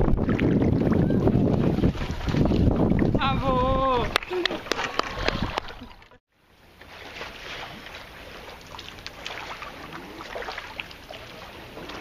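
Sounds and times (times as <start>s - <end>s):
waves lapping against kayak: 0.0s - 12.0s.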